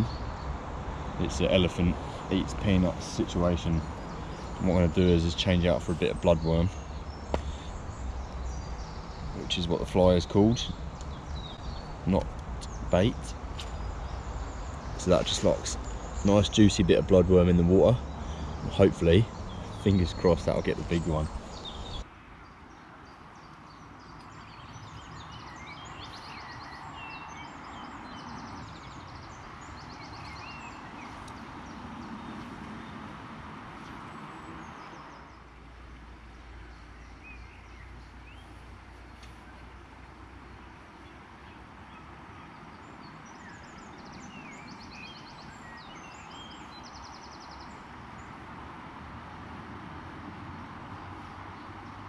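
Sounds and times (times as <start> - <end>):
outdoor background hiss: 0.0 - 52.0
songbirds singing: 0.0 - 52.0.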